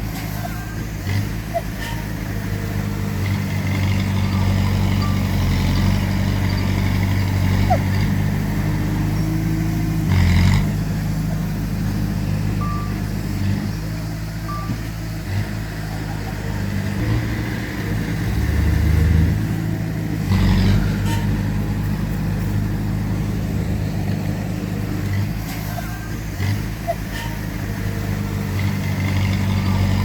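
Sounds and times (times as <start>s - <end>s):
heavy machinery diesel engines: 0.0s - 30.0s.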